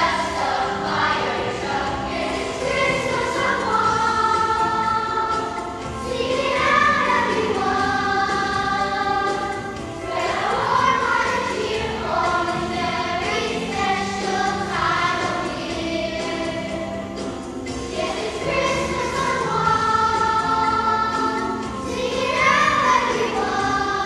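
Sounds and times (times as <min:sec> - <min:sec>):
choir singing: 0:00.0 - 0:24.0
musical accompaniment: 0:00.0 - 0:24.0.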